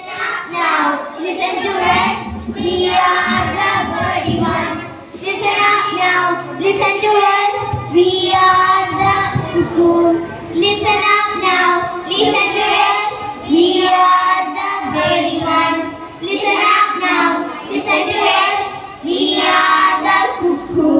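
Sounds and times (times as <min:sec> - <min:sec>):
young children singing: 0:00.0 - 0:20.9.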